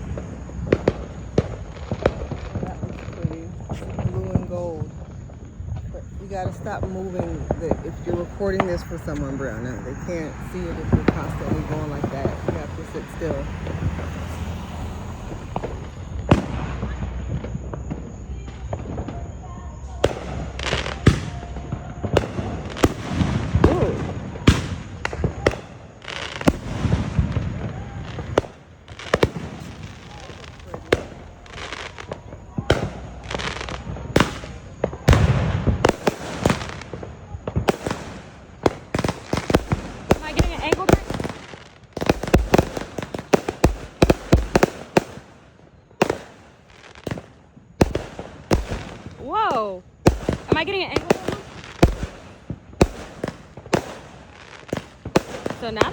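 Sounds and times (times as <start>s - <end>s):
fireworks banging: 0.0s - 55.9s.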